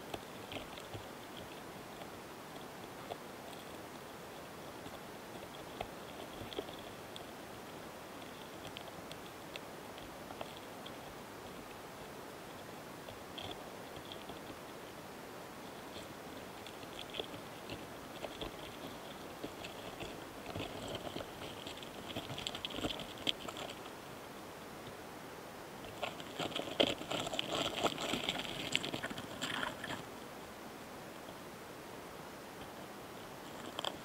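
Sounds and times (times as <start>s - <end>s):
beetles crackling and scratching: 0.0s - 30.4s, 32.5s - 34.0s.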